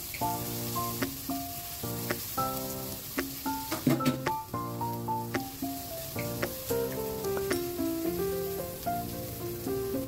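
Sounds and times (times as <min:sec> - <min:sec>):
background music: 0:00.0 - 0:10.0
onions frying in oil: 0:00.0 - 0:10.0.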